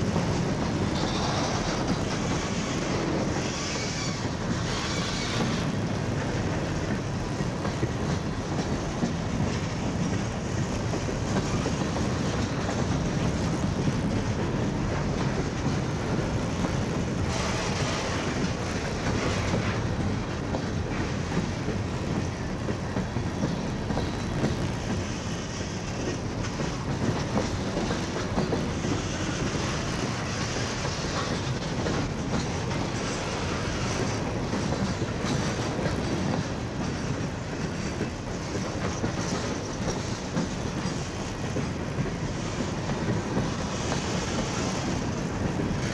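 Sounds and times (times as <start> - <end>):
steel wheels on rails: 0.0 - 45.9.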